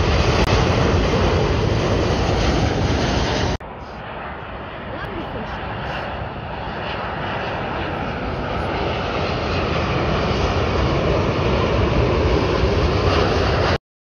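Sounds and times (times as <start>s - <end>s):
jet engines roaring: 0.0s - 13.8s.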